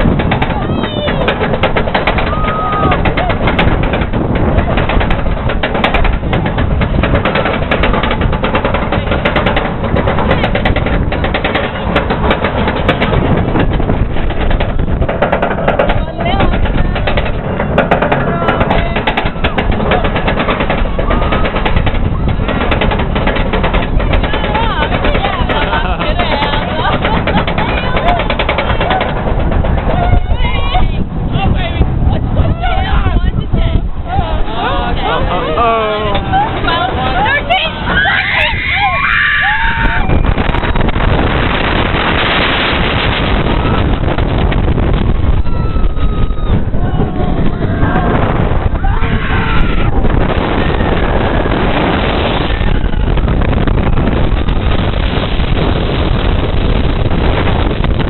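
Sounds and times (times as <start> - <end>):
roller coaster lift chain clatter: 0.0 - 58.0
wind rushing on microphone: 0.0 - 58.0.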